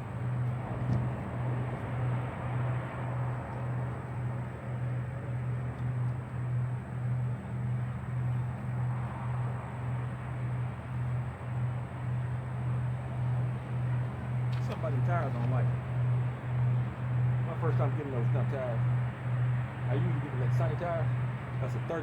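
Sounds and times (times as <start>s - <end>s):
pulsing low hum: 0.0s - 22.0s
road and tire noise: 0.0s - 22.0s.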